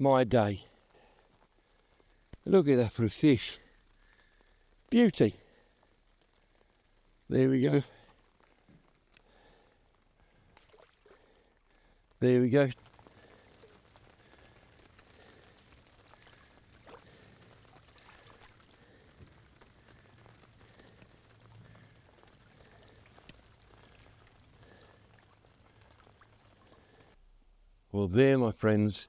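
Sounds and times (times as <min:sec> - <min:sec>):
faint rain patter: 0:00.0 - 0:27.2.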